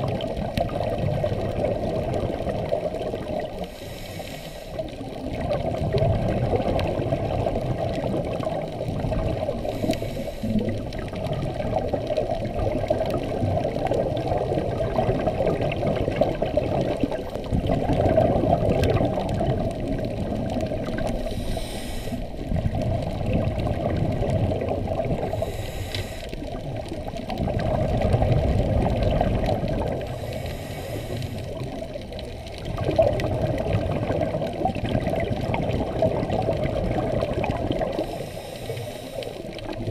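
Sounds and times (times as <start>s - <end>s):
regulator bubbles: 0.0s - 39.9s
underwater water rush: 0.0s - 39.9s.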